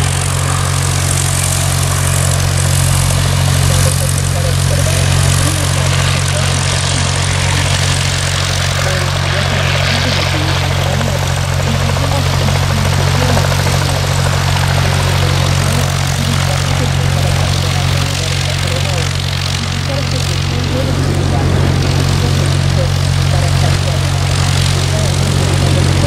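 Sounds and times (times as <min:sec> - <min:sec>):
propeller aircraft engine droning: 0:00.0 - 0:26.0.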